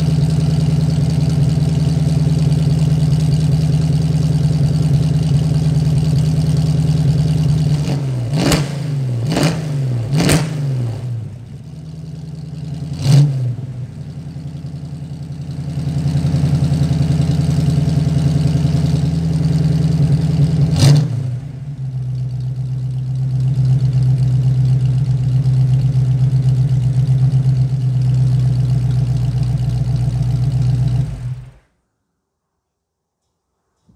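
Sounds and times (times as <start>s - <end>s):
car engine idling: 0.0s - 31.7s
engine throttle blips: 0.0s - 31.7s.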